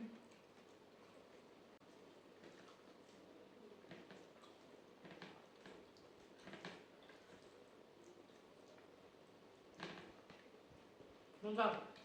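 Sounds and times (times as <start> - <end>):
soft wet chewing clicks: 0.1 - 12.0.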